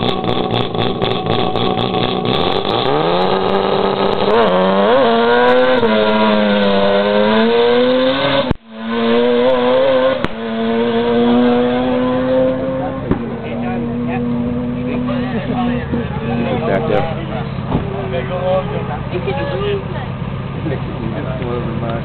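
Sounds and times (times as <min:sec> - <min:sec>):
rotary engine revving: 0:00.0 - 0:22.0.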